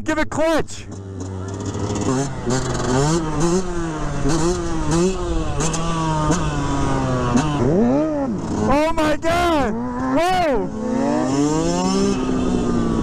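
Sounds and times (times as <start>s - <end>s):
motorcycle engine revving: 0.8s - 13.0s.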